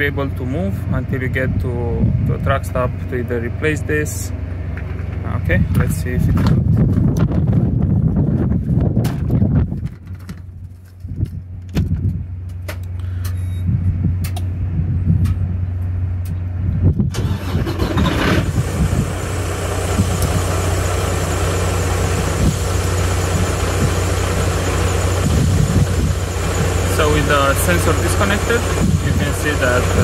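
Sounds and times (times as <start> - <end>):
diesel truck engine running: 0.0 - 8.9, 13.7 - 30.0.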